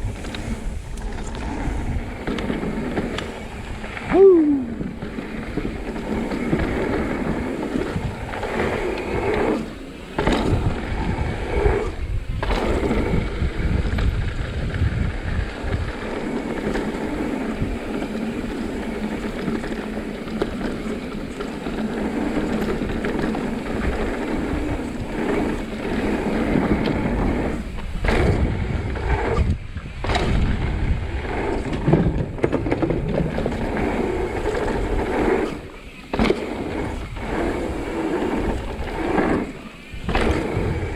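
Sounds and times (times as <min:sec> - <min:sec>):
bike rattling down rough trail: 0:00.0 - 0:40.9
wind on microphone: 0:00.0 - 0:40.9.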